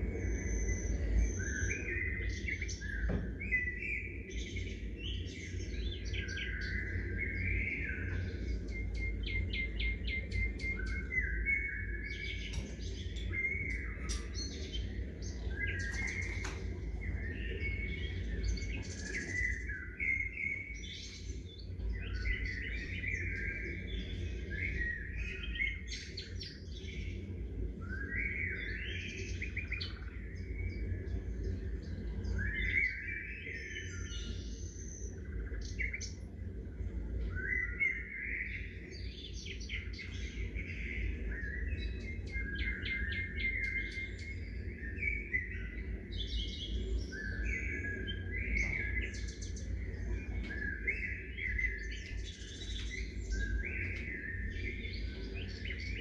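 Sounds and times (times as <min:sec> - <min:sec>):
low background rumble: 0:00.0 - 0:56.0
small songbirds chirping and singing: 0:00.0 - 0:56.0.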